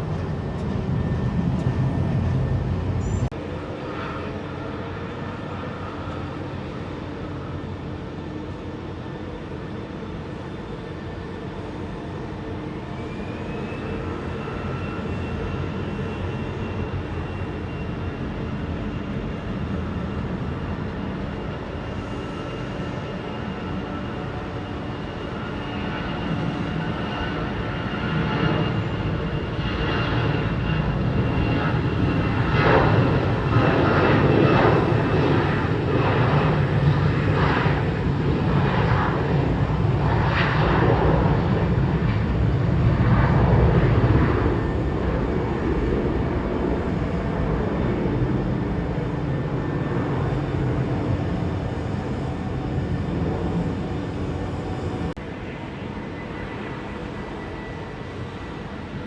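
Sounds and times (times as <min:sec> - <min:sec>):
jet engine whine: 0:00.0 - 0:59.0
jet plane passing: 0:00.0 - 0:59.0.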